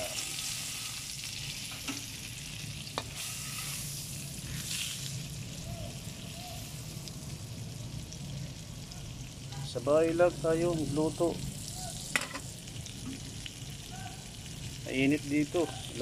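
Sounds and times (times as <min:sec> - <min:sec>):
butter sizzling in a hot pan: 0:00.0 - 0:16.0.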